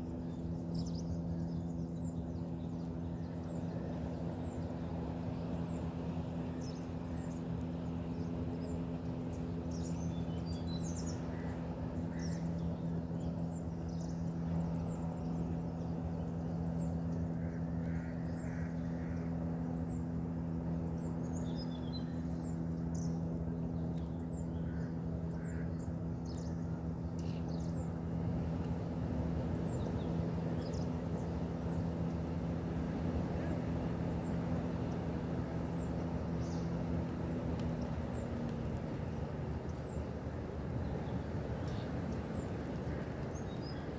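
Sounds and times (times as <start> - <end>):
boat engine humming: 0.0 - 43.9
birds chirping: 0.1 - 43.9.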